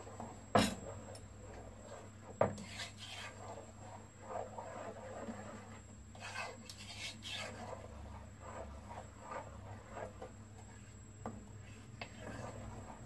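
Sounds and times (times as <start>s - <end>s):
wooden spoon scraping a pot: 0.0s - 13.0s.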